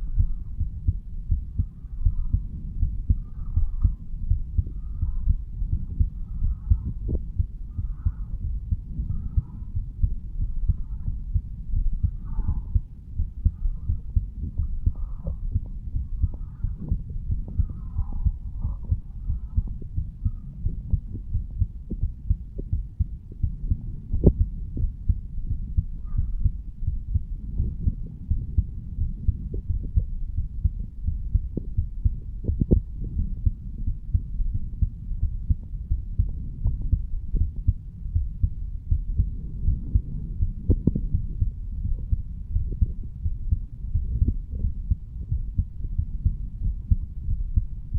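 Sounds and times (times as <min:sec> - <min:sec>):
heartbeat thumps: 0:00.0 - 0:47.9
low rumble: 0:00.0 - 0:47.9.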